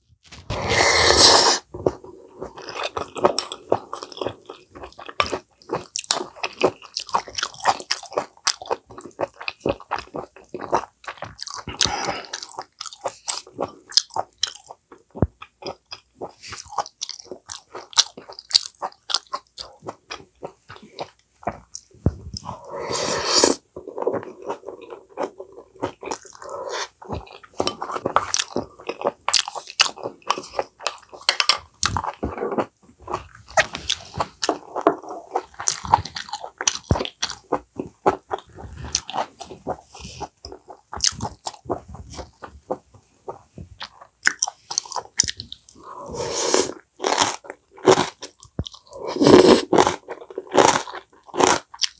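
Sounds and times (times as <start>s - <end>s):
chewing and crunching food: 1.6s - 51.9s.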